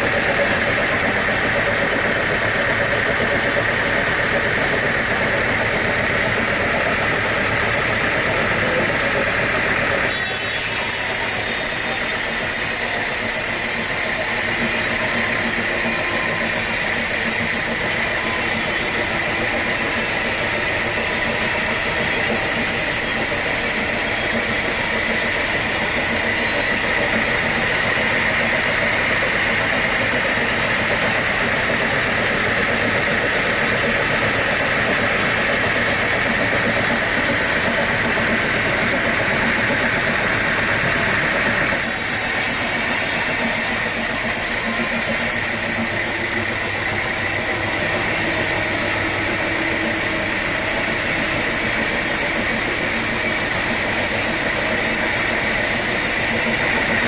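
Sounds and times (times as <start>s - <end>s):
sawmill machinery running: 0.0s - 57.0s
steady high whine: 10.7s - 57.0s.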